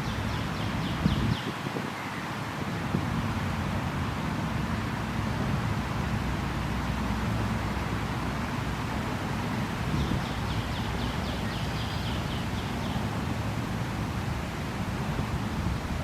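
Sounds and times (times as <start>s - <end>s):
creek rushing: 0.0s - 16.0s
wind: 0.0s - 16.0s.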